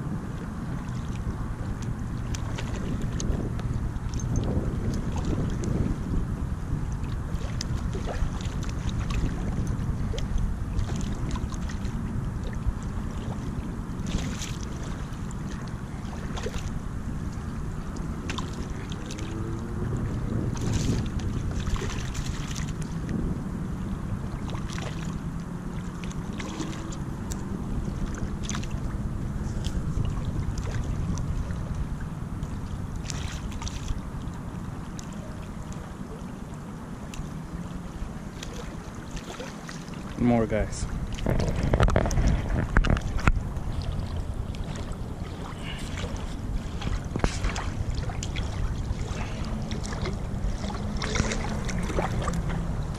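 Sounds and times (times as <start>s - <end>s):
small waves lapping on shore: 0.0s - 52.9s
wind rumbling on microphone: 0.0s - 52.9s.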